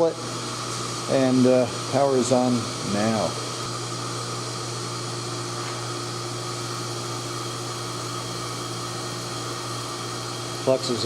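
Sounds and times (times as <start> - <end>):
induction heater hum: 0.0 - 11.0.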